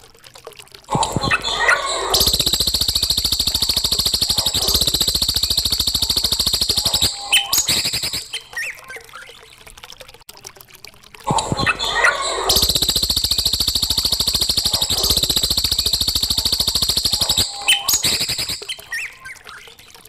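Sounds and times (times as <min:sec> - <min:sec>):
songbird chirping and trilling: 0:01.2 - 0:09.4, 0:11.6 - 0:19.8.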